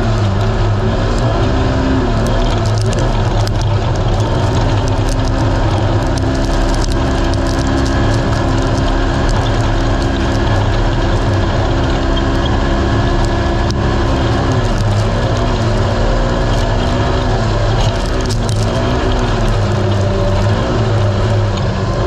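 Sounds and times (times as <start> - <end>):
engine running hard: 0.0 - 22.0
small clicks and rattles: 0.0 - 22.0.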